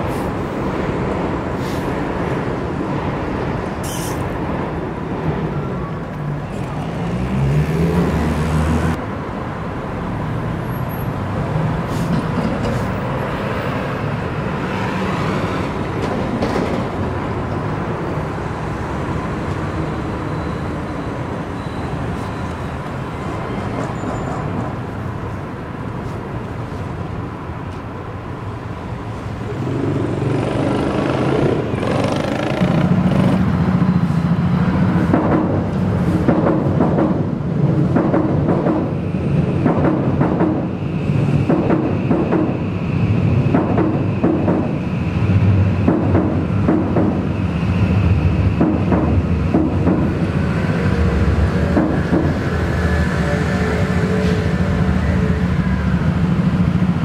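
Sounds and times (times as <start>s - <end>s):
city street traffic: 0.0s - 57.0s
commuter train running: 0.0s - 57.0s.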